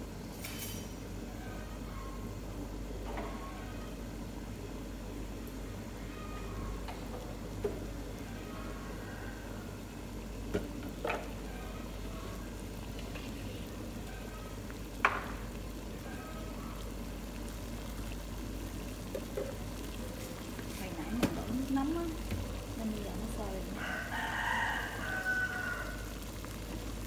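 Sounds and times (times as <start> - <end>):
water boiling in pot: 0.0 - 27.0.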